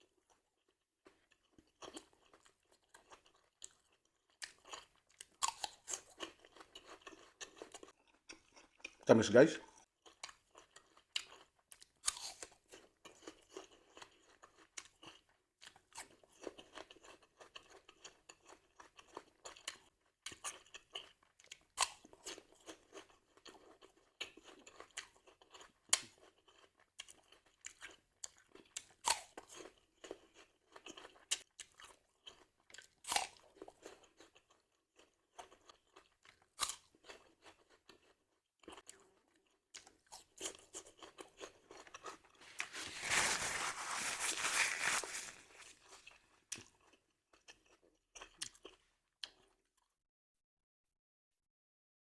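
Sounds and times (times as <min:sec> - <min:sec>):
person chewing crisp apple: 0:01.1 - 0:09.0, 0:09.7 - 0:49.9.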